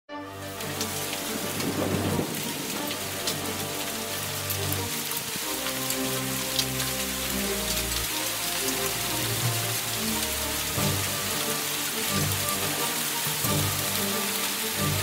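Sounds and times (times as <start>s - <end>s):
heavy rain hissing: 0.3s - 15.0s
hail ticking on road: 0.5s - 15.0s.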